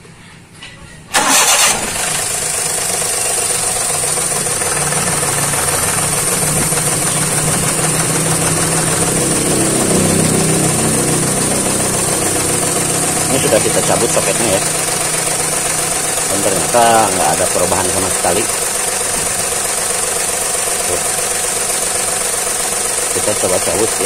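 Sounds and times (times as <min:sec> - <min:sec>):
car engine starting: 0:01.1 - 0:24.0
engine idling rough: 0:01.1 - 0:24.0.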